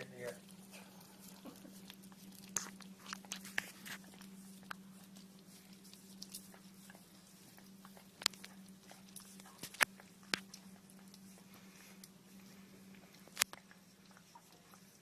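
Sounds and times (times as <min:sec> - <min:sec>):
steady low hum: 0:00.0 - 0:15.0
dog licking wet smacking: 0:00.4 - 0:15.0.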